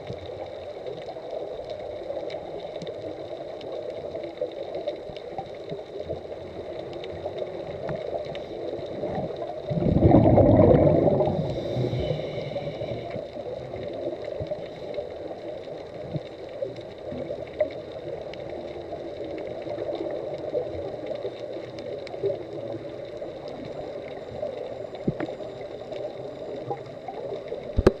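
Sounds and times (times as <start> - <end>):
muffled underwater rush: 0.0 - 28.0
scuba bubbles gushing: 0.0 - 28.0.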